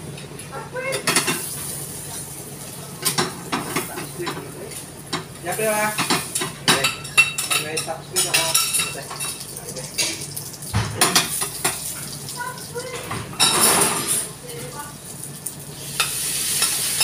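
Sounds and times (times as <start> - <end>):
food sizzling: 0.0 - 7.4, 8.0 - 13.4, 14.2 - 17.0.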